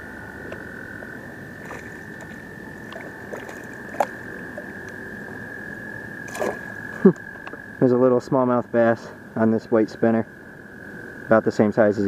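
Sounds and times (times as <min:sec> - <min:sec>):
toads trilling: 0:00.0 - 0:12.0.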